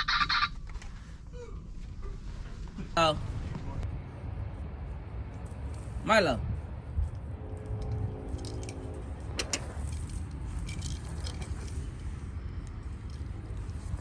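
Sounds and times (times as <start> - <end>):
low rumble: 0.5 - 14.0.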